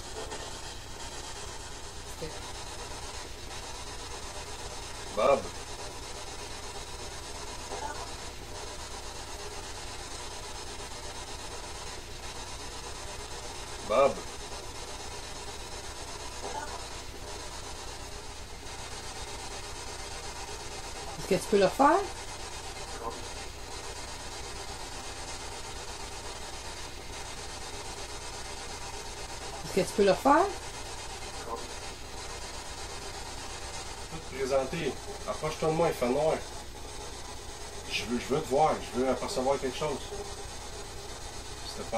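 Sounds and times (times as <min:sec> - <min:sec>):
hiss and electrical hum: 0:00.0 - 0:41.9.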